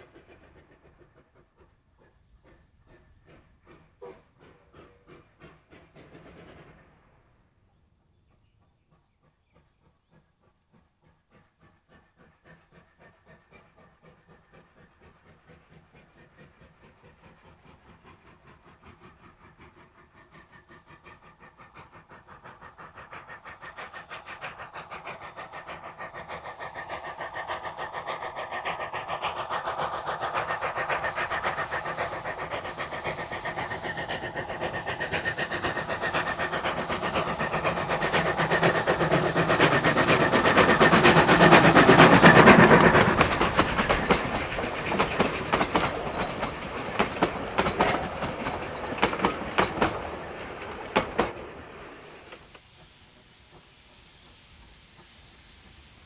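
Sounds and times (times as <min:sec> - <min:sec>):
steam locomotive exhaust beat: 0:00.0 - 0:07.5, 0:08.2 - 0:56.0.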